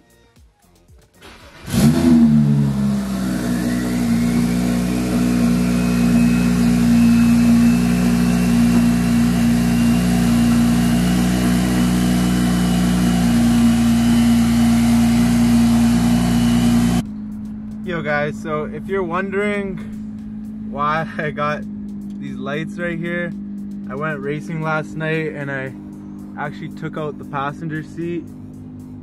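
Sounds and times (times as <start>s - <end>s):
car engine starting and idling: 1.0s - 29.0s.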